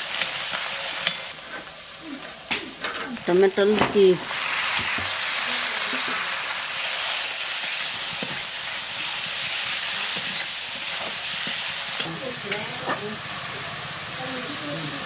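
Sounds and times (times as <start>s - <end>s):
food sizzling in oil: 0.0s - 2.5s, 3.2s - 15.0s.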